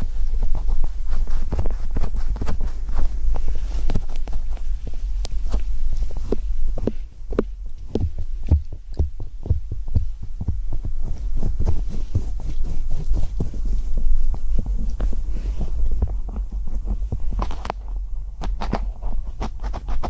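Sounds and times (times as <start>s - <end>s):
taps and scratches on microphone: 0.0s - 20.0s.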